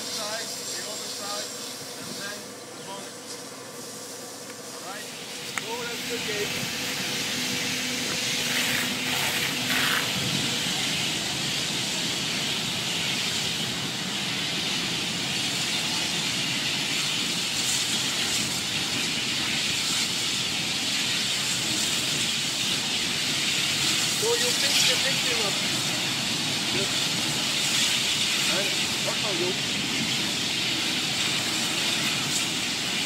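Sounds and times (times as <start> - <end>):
hose nozzles spraying water: 0.0 - 33.0.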